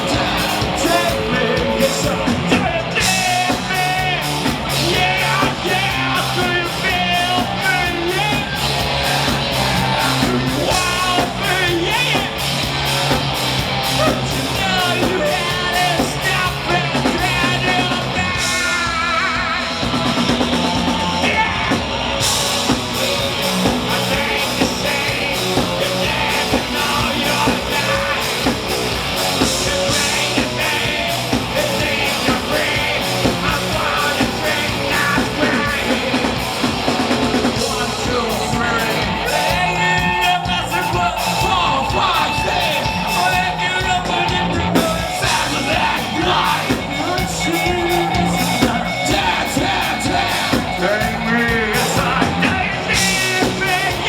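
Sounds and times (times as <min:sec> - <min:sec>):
person singing: 0:00.0 - 0:12.5, 0:14.0 - 0:54.0
rock band playing: 0:00.0 - 0:54.0
steady drums: 0:00.0 - 0:54.0.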